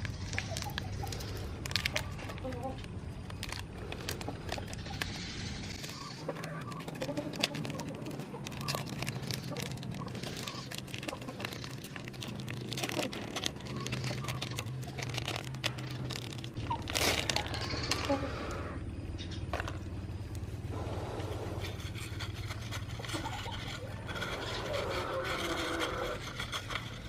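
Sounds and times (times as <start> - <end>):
brittle material crackling in grinder: 0.0 - 18.6, 21.6 - 27.0.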